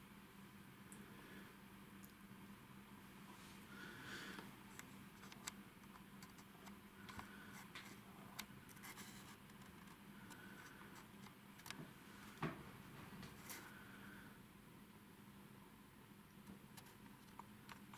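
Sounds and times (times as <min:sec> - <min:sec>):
faint low hum: 0:00.0 - 0:17.9.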